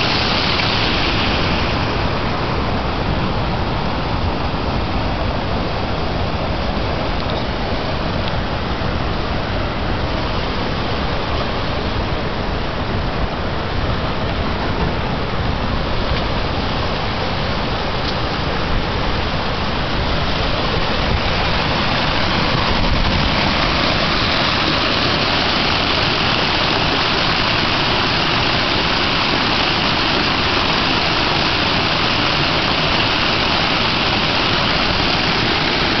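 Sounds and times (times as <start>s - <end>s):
floodwater gushing from sewer: 0.0s - 36.0s.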